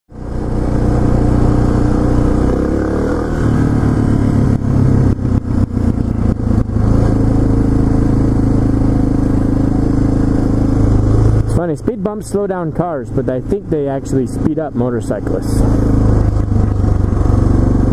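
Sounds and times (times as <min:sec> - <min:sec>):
motorcycle engine running: 0:00.1 - 0:17.9.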